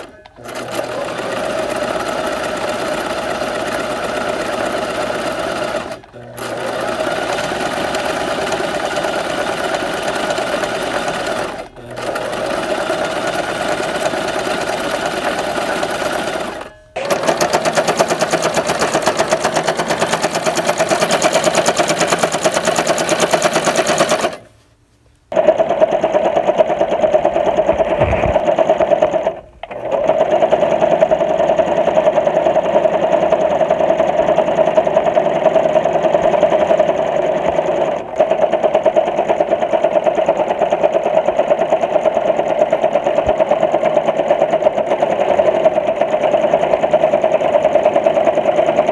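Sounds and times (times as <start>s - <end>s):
sewing machine running: 0.0s - 24.5s, 25.3s - 48.9s.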